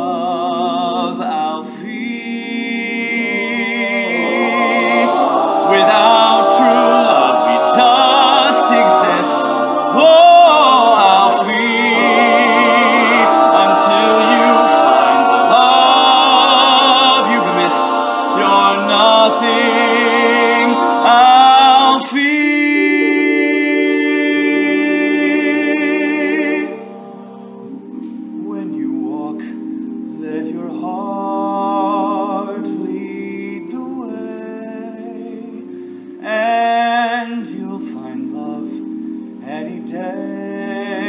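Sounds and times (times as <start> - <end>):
male a cappella group singing: 0.0 - 29.6, 30.2 - 41.0
male soloist singing with vibrato: 0.0 - 29.6, 30.2 - 41.0.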